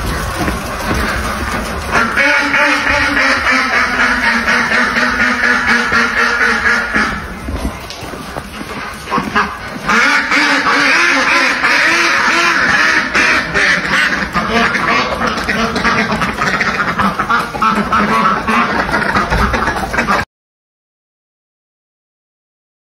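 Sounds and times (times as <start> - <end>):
ducks quacking: 0.0 - 20.3.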